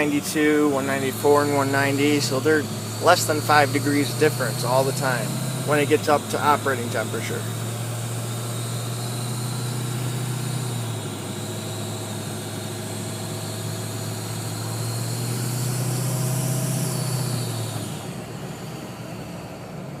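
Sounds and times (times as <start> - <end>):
diesel engine running: 0.0 - 20.0
turbo whine: 0.0 - 20.0.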